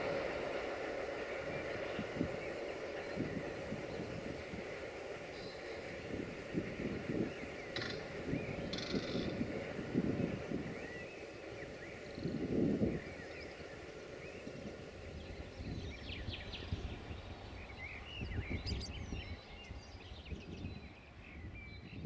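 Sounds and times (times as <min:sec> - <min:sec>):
low outdoor rumble: 0:00.0 - 0:21.4
small birds chirping: 0:00.9 - 0:22.0.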